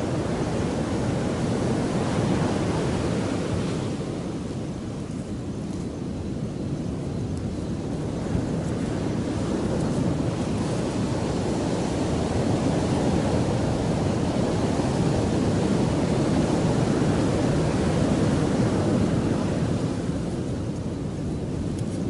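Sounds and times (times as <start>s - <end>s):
surf on beach: 0.0s - 22.0s
wind on microphone: 0.0s - 22.0s.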